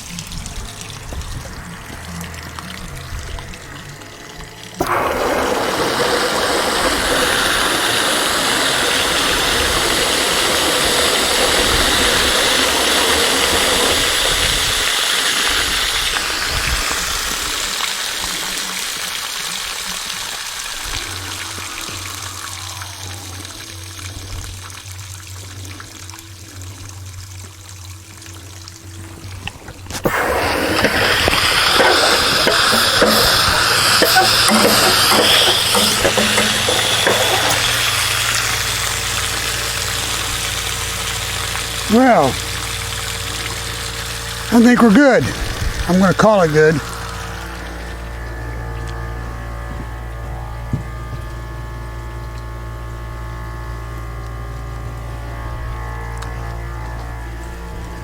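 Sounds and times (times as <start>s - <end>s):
steady low hum: 0.0s - 17.8s, 20.5s - 58.0s
water rushing out of tank: 0.0s - 58.0s.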